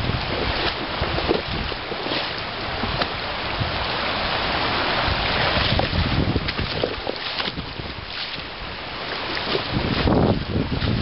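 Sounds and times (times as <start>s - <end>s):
river water rushing over rocks: 0.0s - 11.0s
wind buffeting microphone: 0.0s - 11.0s.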